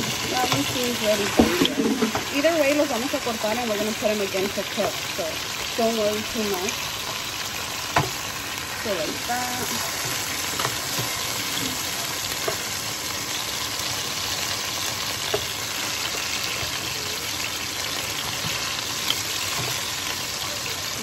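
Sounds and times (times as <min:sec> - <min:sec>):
chicken sizzling in oil: 0:00.0 - 0:21.0
kitchen exhaust fan: 0:00.0 - 0:21.0.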